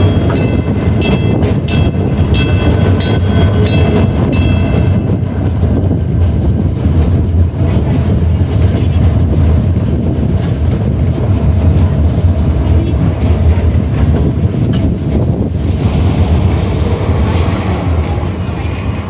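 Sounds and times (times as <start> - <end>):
streetcar rumbling on rails: 0.0 - 19.0
wind buffeting microphone: 0.0 - 19.0.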